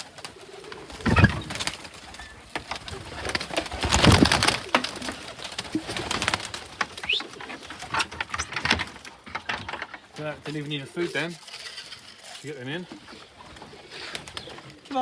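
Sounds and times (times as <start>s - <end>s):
clattering and rustling of wings: 0.0s - 15.0s
pigeons cooing: 0.0s - 15.0s.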